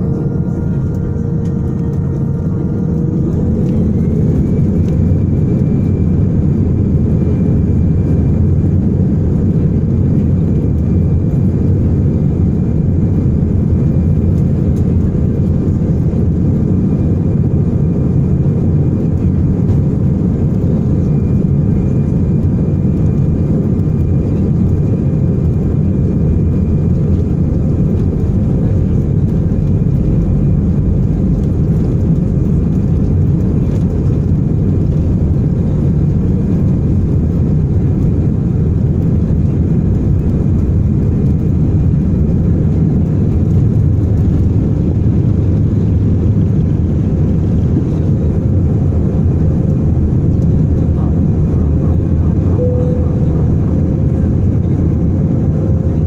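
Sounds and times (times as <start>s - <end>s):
jet engines at takeoff thrust: 0.0s - 56.0s.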